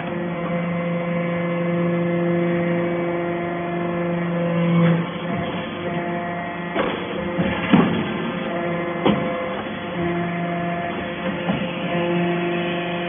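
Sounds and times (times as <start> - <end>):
dull machine noise: 0.0 - 13.0
hydraulic pump humming: 0.0 - 13.0.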